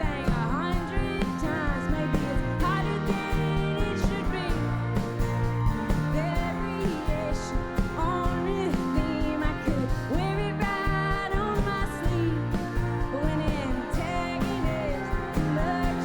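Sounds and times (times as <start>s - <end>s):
live band playing: 0.0s - 16.0s
woman singing: 0.0s - 16.0s.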